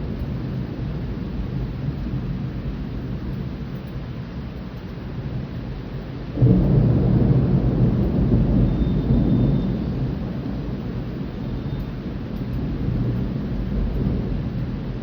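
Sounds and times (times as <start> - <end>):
steady hiss of rain: 0.0 - 15.0
thunder rumbling: 0.0 - 15.0.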